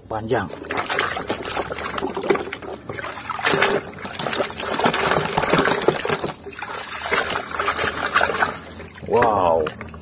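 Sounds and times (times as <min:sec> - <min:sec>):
water splashing in a basin: 0:00.3 - 0:10.0.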